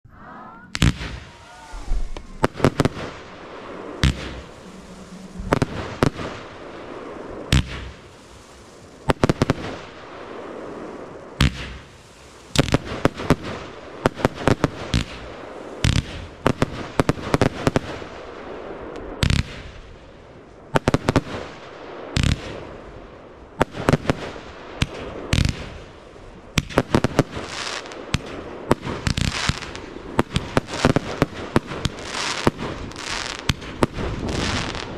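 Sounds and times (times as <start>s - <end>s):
fireworks bursting: 0.4s - 34.9s.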